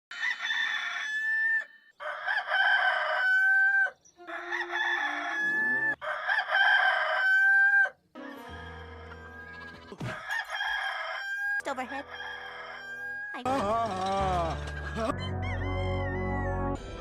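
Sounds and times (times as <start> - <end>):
rooster crowing: 0.1 - 13.4, 15.2 - 16.6.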